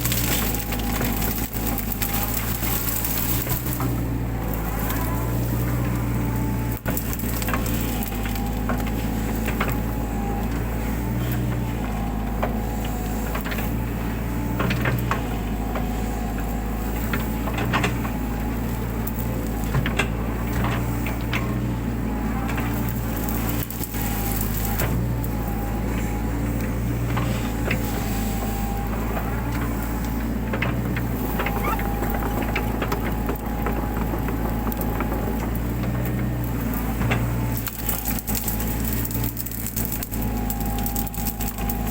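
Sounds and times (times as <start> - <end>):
brush and wood snapping: 0.0 - 41.9
diesel engine running under load: 0.0 - 41.9.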